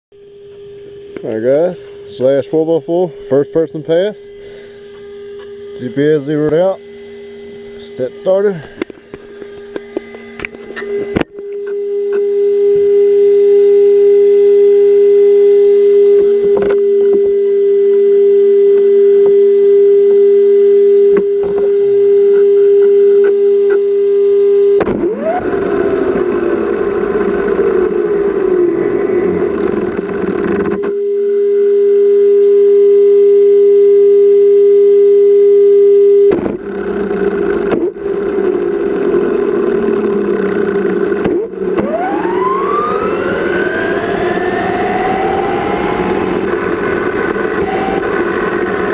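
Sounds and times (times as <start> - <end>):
steady motor tone: 0.1 - 48.9
electric motor whining: 0.2 - 48.9.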